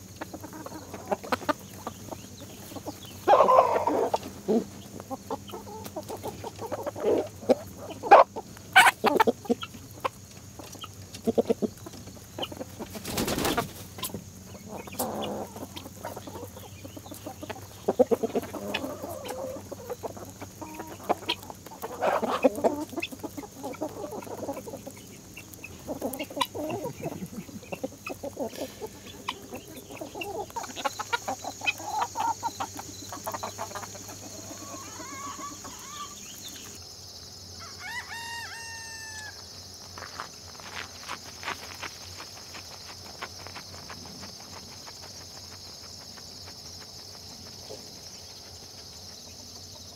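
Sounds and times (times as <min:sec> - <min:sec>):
chickens clucking: 0:00.0 - 0:36.8, 0:40.0 - 0:49.9.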